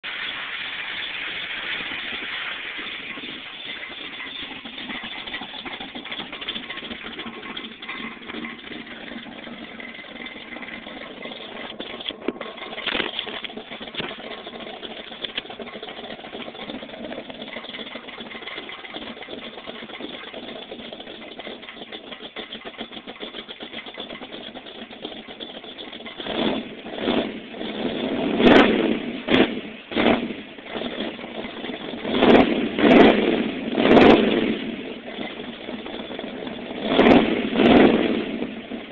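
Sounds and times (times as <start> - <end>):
car exhaust idling and revving: 0.0 - 38.9
exhaust tip rattling: 0.0 - 38.9.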